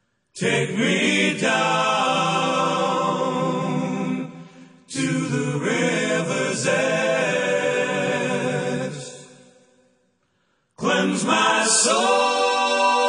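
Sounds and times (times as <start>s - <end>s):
layered singing voices: 0.4s - 9.7s, 10.8s - 13.0s.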